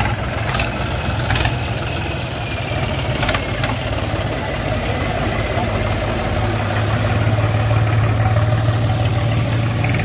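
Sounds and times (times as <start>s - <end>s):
diesel tractor engines rumbling: 0.0s - 10.0s.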